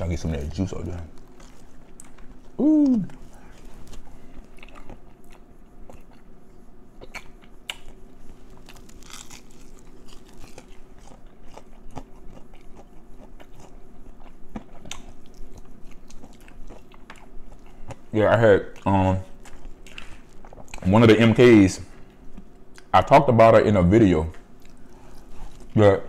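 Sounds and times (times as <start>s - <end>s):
person chewing fried chicken: 1.1s - 20.8s, 24.5s - 25.8s.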